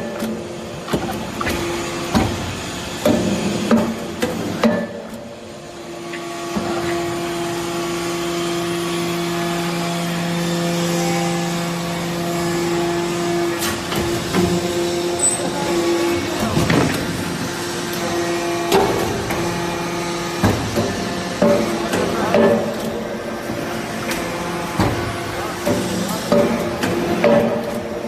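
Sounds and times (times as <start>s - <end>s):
hydraulic pump humming: 0.0s - 28.0s.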